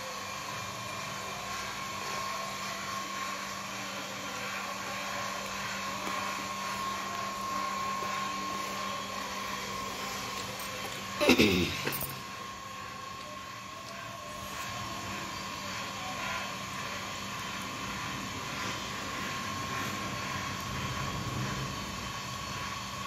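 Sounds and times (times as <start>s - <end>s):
machine whirring: 0.0s - 23.0s.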